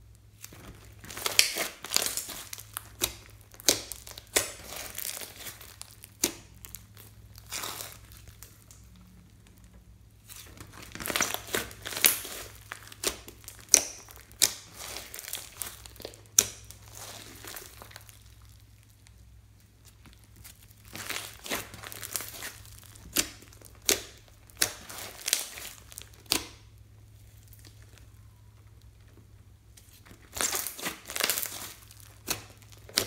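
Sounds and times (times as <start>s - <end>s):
slime squishing and crackling: 0.0s - 33.0s.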